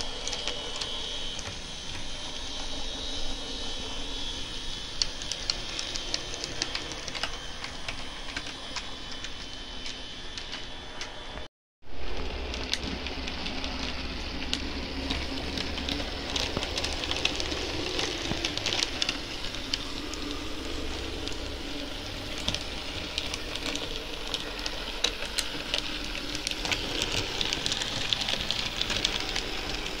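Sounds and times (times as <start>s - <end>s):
model train running on track: 0.0s - 30.0s
wheels clicking over rail joints: 5.0s - 11.5s, 12.2s - 30.0s.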